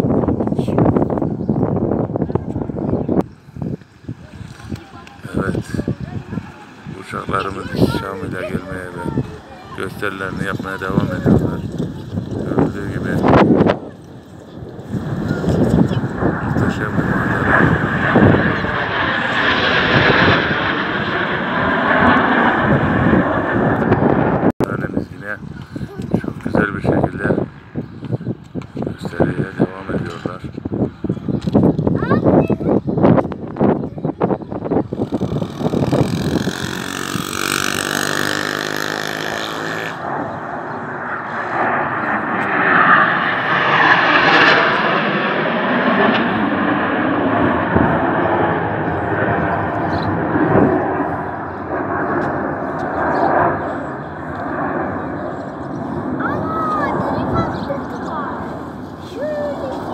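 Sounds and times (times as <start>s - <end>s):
jet passing overhead: 0.0s - 59.9s.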